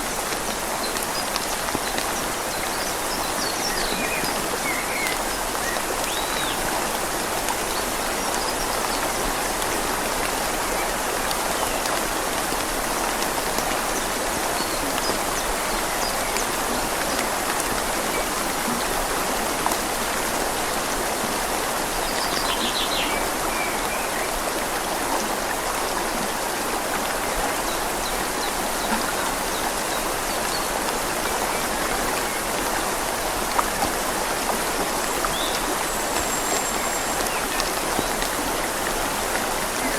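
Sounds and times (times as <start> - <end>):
rain falling on leaves: 0.0 - 39.9
river flowing gently: 0.0 - 39.9.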